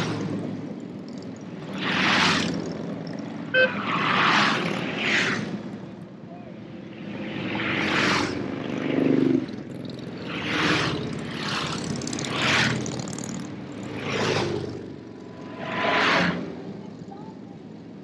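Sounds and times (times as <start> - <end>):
motorcycles passing: 0.0 - 18.0.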